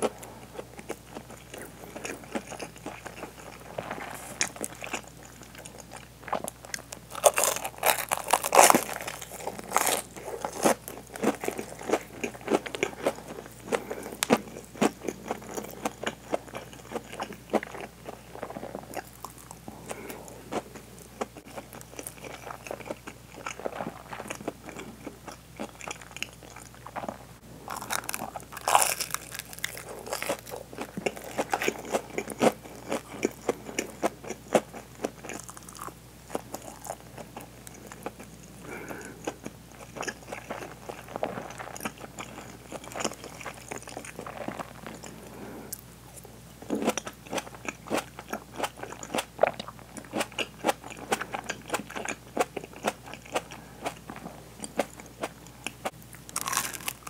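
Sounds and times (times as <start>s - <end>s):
crunchy chewing: 0.0s - 57.0s
wet chewing: 0.0s - 57.0s.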